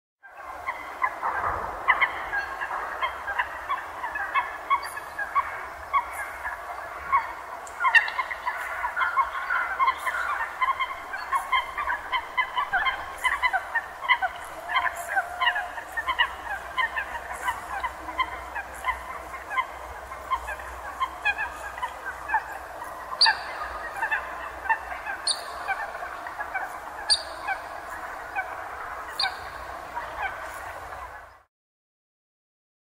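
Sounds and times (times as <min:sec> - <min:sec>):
flock of water birds calling: 0:00.2 - 0:31.5.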